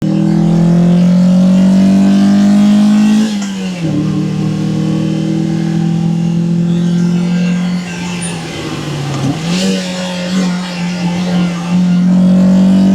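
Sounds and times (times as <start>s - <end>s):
car engine accelerating hard: 0.0s - 12.9s.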